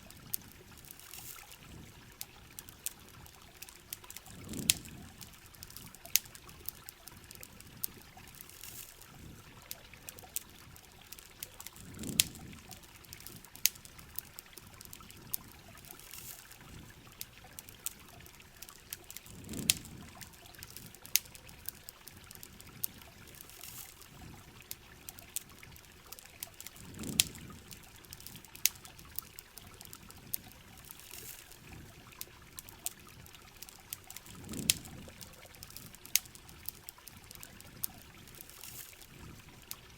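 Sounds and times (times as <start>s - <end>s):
campfire crackling and popping: 0.0s - 39.9s
steady rain: 0.0s - 39.9s
water trickling and pouring: 0.0s - 39.9s.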